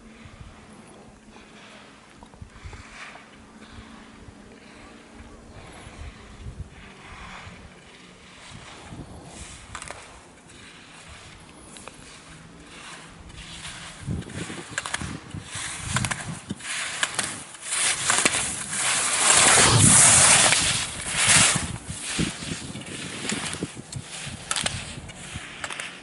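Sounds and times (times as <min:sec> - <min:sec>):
skis scraping on snow: 0:00.0 - 0:26.0.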